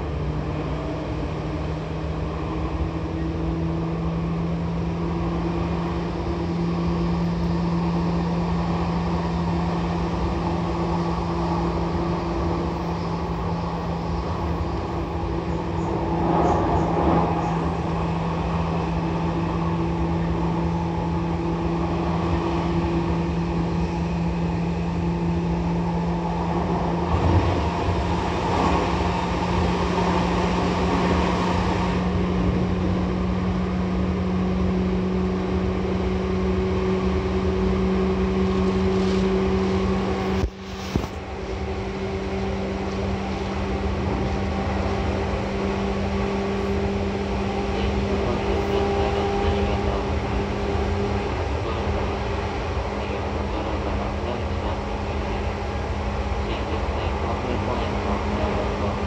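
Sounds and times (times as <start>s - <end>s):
rail and wheel noise: 0.0s - 59.0s
train motor hum: 0.0s - 59.0s.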